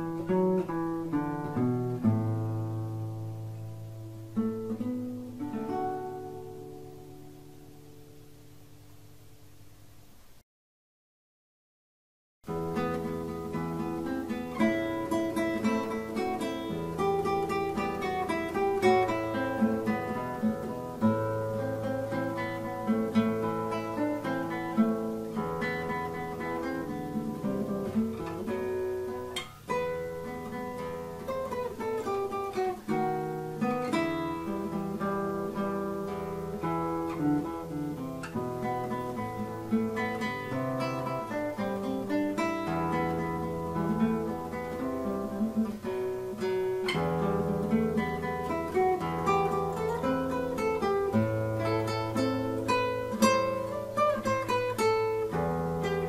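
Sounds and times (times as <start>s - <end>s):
acoustic guitar melody: 0.0s - 10.4s, 12.4s - 56.0s.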